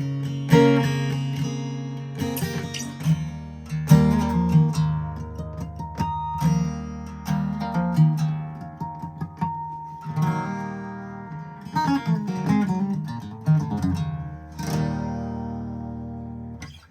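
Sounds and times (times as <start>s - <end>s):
acoustic guitar playing: 0.0s - 16.9s.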